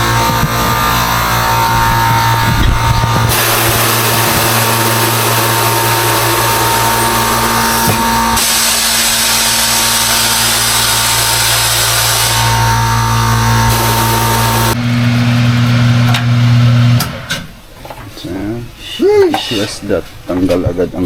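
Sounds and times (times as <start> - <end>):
machine hissing: 0.0 - 17.2
low electric hum: 0.0 - 21.0.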